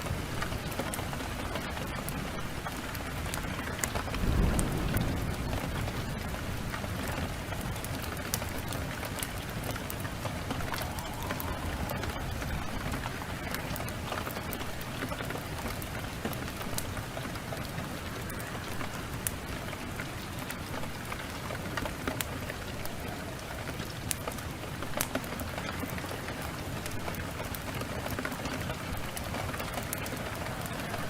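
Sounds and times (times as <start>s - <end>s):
heavy rain falling: 0.0s - 31.0s
wood fire crackling: 0.0s - 31.0s.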